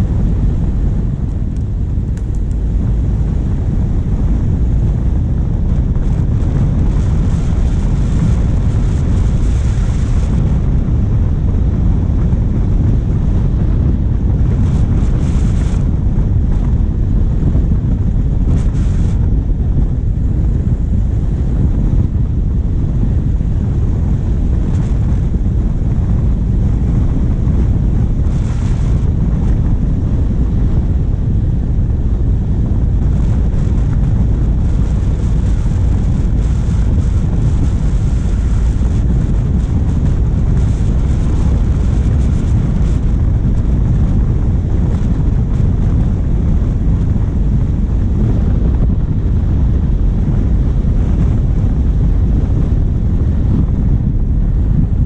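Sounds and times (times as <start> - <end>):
diesel engine running: 0.0 - 55.0
wind buffeting microphone: 0.0 - 55.0.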